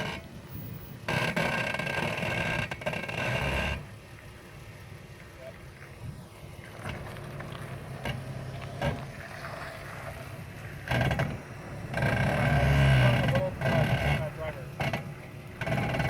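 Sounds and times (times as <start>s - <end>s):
brakes making tonal noise: 0.0s - 16.0s
vehicle rumble: 0.0s - 16.0s.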